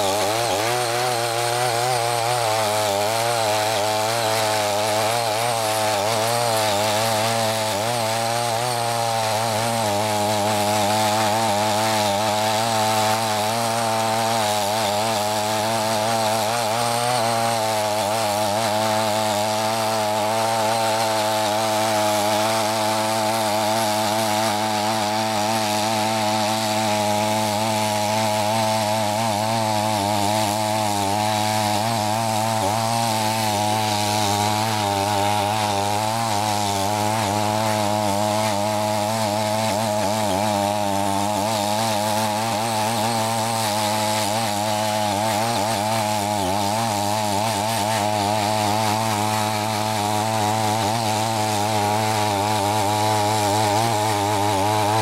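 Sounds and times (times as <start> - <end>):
rotary blades tilling soil: 0.0 - 55.0
tiller engine running: 0.0 - 55.0.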